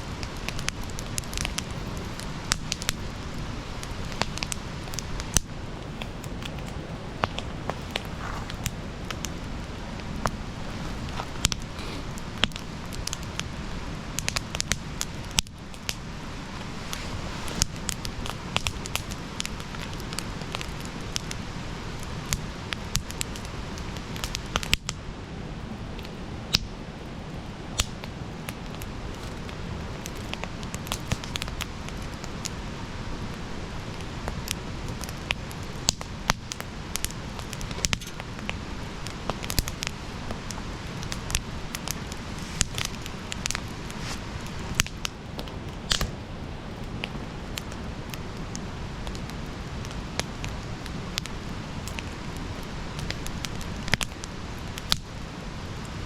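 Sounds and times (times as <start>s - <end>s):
campfire crackling and popping: 0.0s - 56.0s
low rush of flames: 0.0s - 56.0s.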